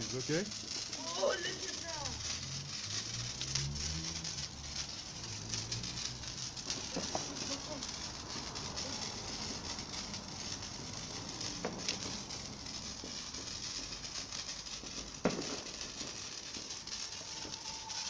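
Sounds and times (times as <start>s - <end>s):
sparkler fizzing and crackling: 0.0s - 18.0s.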